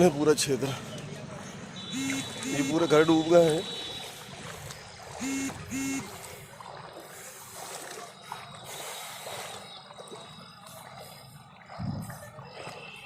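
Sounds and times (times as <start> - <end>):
floodwater rushing: 0.0 - 13.0
water splashing and trickling: 0.0 - 13.0.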